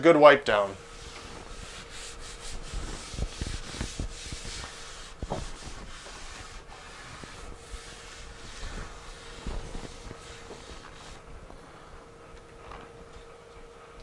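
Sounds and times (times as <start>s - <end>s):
cloth rubbing on wood: 0.6s - 12.2s.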